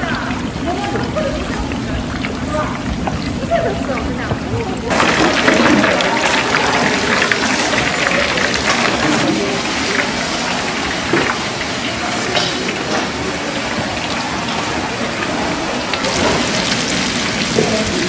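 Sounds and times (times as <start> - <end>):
bread deep-frying in oil: 0.0 - 18.0.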